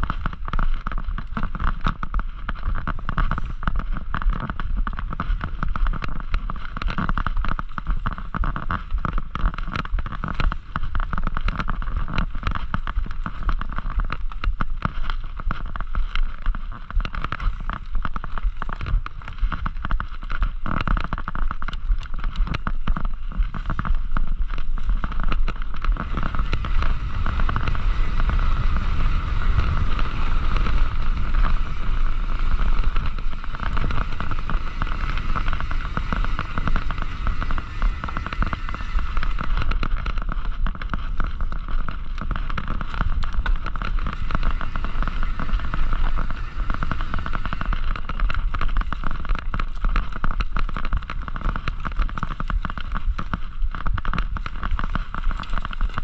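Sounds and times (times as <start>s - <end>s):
bike rattling and clicking: 0.0s - 56.0s
bike tyres on dirt trail: 0.0s - 56.0s
wind rumble on microphone: 0.0s - 56.0s.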